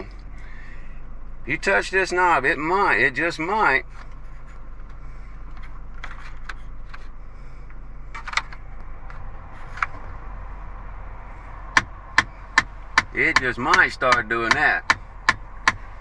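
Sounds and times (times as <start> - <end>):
air conditioning blower hum: 0.0 - 16.0
engine idling: 0.0 - 16.0.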